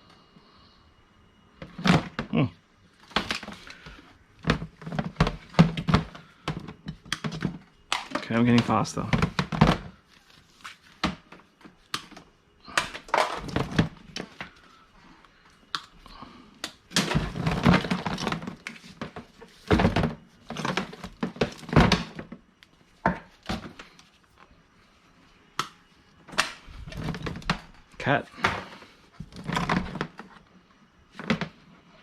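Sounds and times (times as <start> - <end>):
thunks and clacks of scrap items: 1.6 - 24.5, 25.6 - 32.0.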